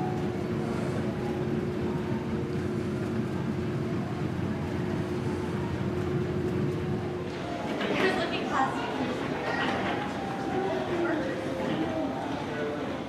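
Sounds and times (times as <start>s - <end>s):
airport terminal interior hum: 0.0s - 13.0s.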